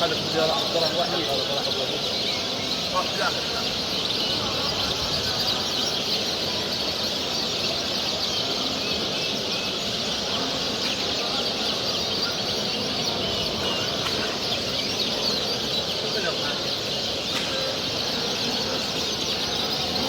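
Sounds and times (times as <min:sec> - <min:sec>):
cage birds chirping and singing: 0:00.0 - 0:20.0
low background murmur: 0:00.0 - 0:20.0.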